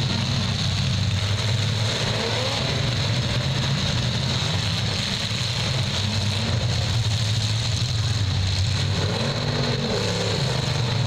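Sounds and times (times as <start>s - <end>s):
car engines rumbling: 0.0s - 11.0s
engine revving: 0.0s - 11.0s.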